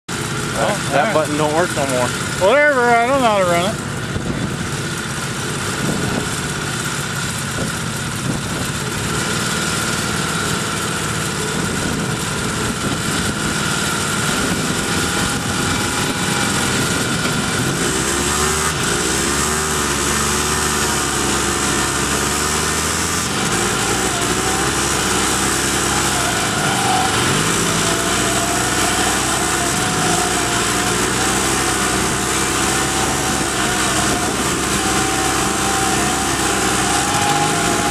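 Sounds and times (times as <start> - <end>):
small engines running: 0.1 - 37.9.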